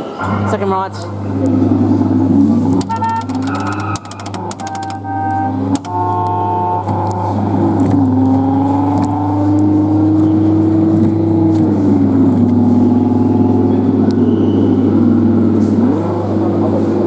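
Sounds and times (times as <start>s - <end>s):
kiddie ride motor hum and whine: 0.0s - 17.0s.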